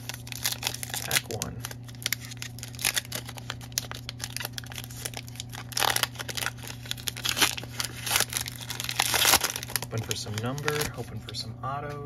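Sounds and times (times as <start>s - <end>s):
card pack wrapper tearing: 0.0s - 11.1s
wrapper crinkling: 0.0s - 11.3s.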